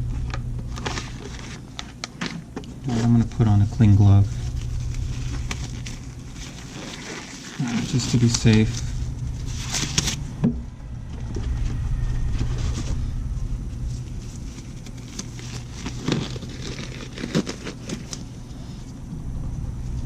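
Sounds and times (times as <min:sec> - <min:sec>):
low hum: 0:00.0 - 0:20.0
disposable glove crinkling: 0:00.7 - 0:10.4, 0:12.2 - 0:19.0.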